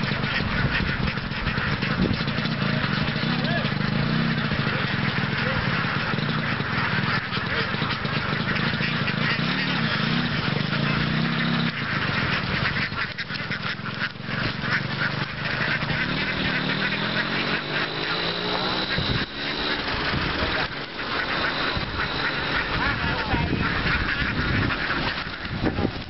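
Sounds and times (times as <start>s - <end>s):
flock of ducks quacking: 0.0s - 26.0s
steady low hum: 0.0s - 26.0s.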